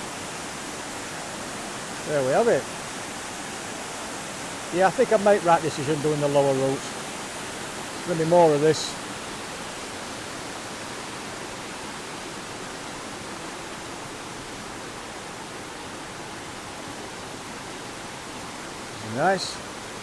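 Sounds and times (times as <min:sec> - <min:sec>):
rushing river water: 0:00.0 - 0:20.0
small waterfall: 0:00.0 - 0:20.0.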